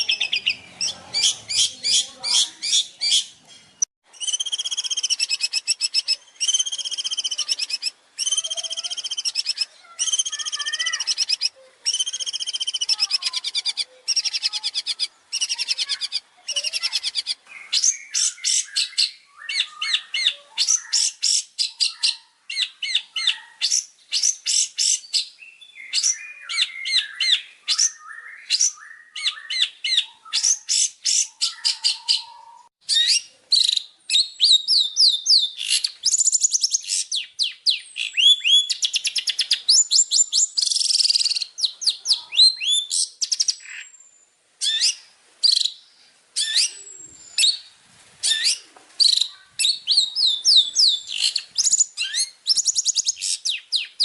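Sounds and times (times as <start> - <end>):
bird chattering song: 0.0 - 45.8, 46.4 - 54.0.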